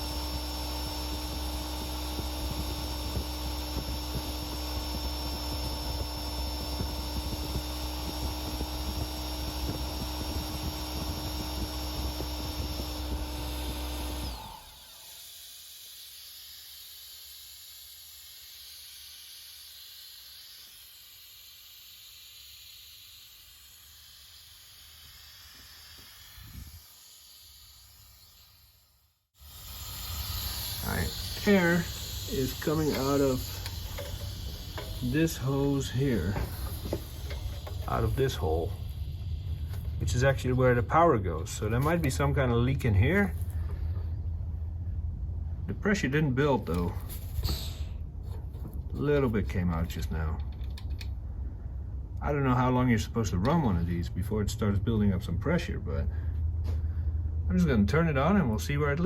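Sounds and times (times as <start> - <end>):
air hissing from compressor: 0.0 - 45.9, 46.6 - 50.2
air compressor humming and whining: 0.0 - 52.7.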